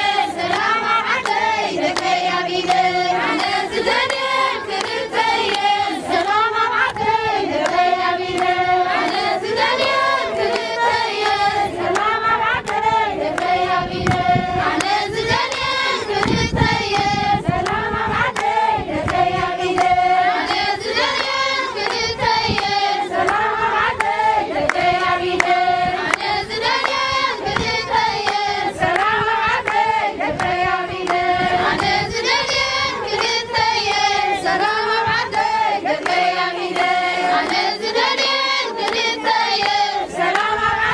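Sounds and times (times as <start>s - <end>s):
rhythmic hand clapping: 0.0s - 40.9s
women singing together: 0.0s - 40.9s.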